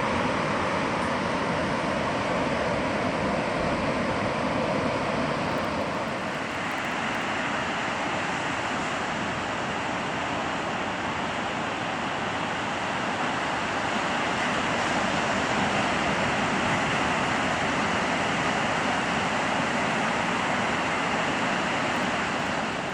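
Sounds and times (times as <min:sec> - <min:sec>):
ocean surf breaking on beach: 0:00.0 - 0:22.9.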